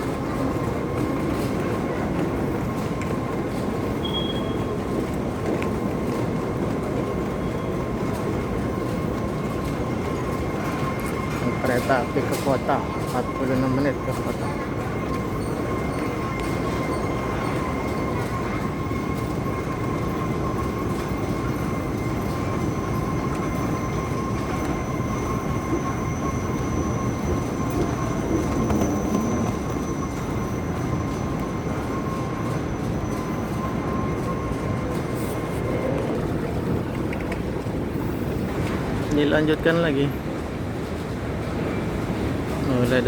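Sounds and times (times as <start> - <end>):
moving walkway rumble: 0.0 - 43.0.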